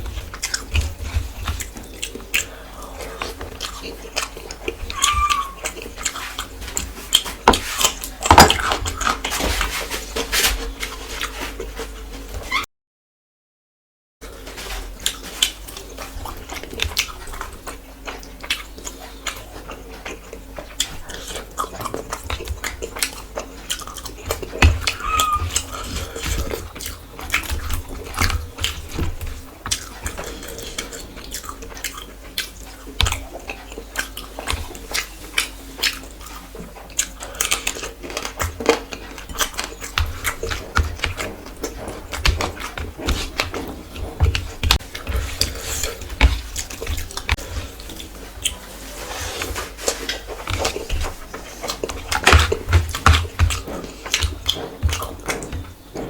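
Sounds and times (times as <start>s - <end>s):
chewing and mouth smacking: 0.0s - 9.8s, 15.0s - 56.0s.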